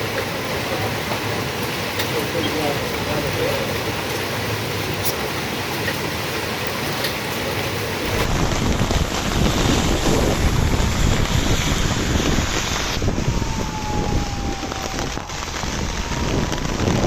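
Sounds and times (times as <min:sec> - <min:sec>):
wind and rain rushing: 0:00.0 - 0:17.0
wind gusts buffeting microphone: 0:00.0 - 0:17.0.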